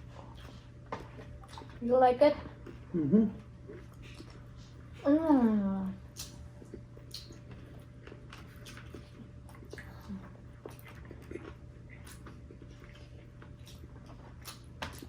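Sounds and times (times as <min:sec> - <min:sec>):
person chewing food: 0:00.0 - 0:01.8, 0:02.5 - 0:05.0, 0:06.0 - 0:15.0
steady low hum: 0:00.0 - 0:15.0.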